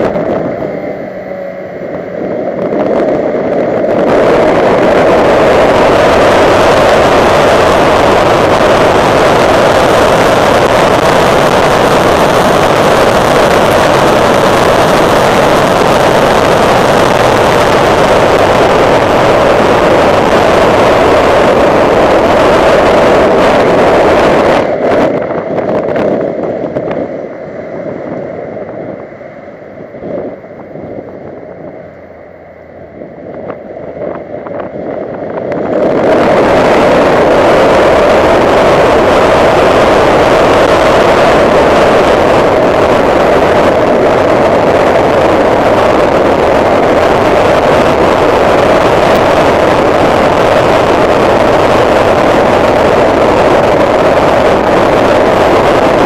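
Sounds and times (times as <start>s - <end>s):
car engine running: 0.0s - 56.0s
tyre and wind noise: 0.0s - 56.0s.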